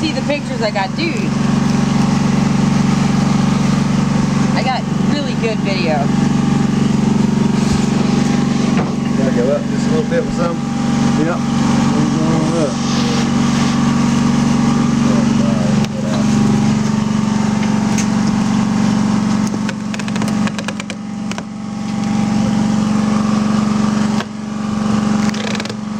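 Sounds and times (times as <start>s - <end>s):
bee vacuum humming: 0.0s - 25.9s.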